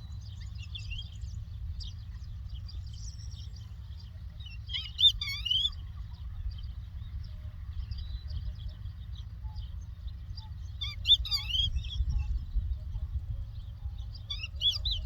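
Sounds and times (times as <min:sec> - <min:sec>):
lark singing: 0:00.0 - 0:15.0.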